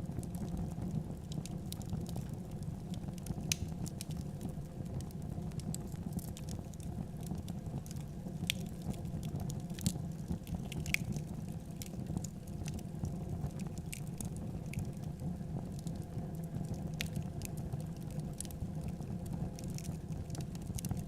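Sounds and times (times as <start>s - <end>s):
low rumble of burning: 0.0s - 21.0s
wood fire crackling: 0.0s - 21.0s.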